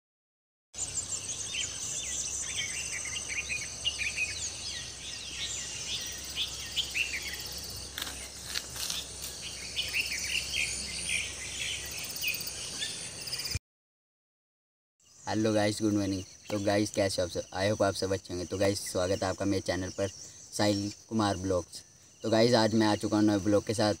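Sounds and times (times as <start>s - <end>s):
birds chirping: 0.8s - 13.6s, 15.0s - 24.0s
insects trilling: 0.8s - 13.6s, 15.0s - 24.0s.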